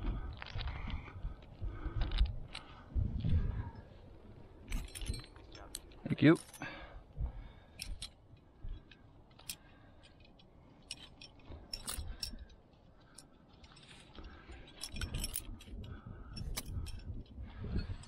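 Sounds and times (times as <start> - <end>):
metal climbing gear clinking: 0.0 - 18.0.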